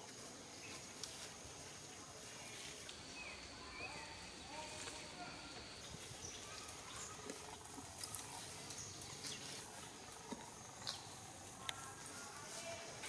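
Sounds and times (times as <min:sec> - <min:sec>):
rustling of dry leaves: 0:00.0 - 0:13.0.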